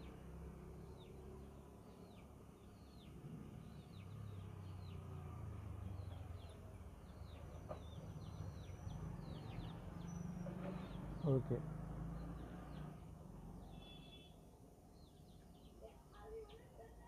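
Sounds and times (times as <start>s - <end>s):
birds chirping: 0.8s - 5.2s, 5.8s - 17.0s.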